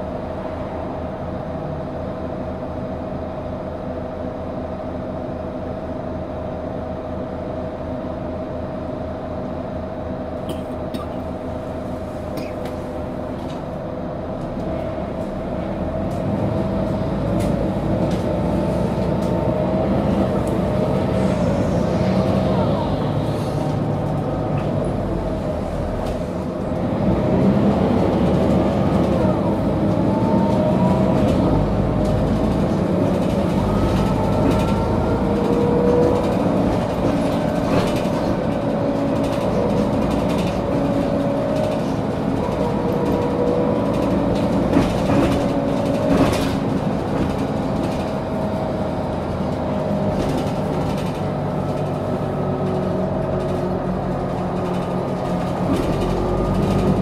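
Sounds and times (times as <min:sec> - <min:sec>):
bus engine rumble with whines: 0:00.0 - 0:57.0.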